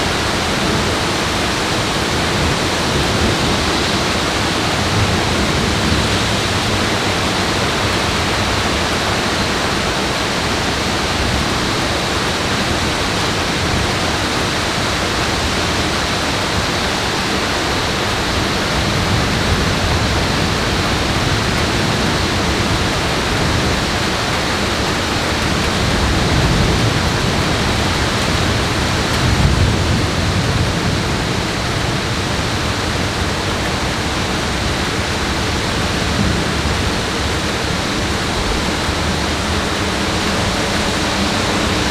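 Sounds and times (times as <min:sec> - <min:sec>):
rush of falling water: 0:00.0 - 0:41.9.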